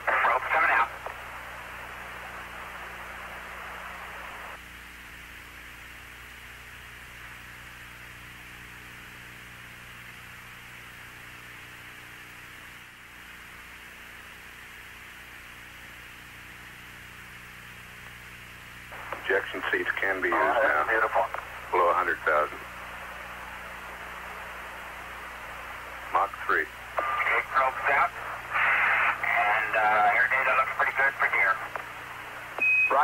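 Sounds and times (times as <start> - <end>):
radio hiss: 0.0 - 4.6, 6.1 - 33.0
electrical mains hum: 0.0 - 33.0.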